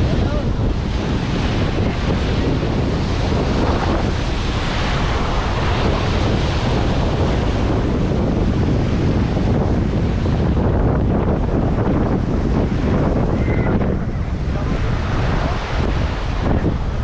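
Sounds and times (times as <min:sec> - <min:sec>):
sea waves on a beach: 0:00.0 - 0:17.0
wind rumbling on microphone: 0:00.0 - 0:17.0.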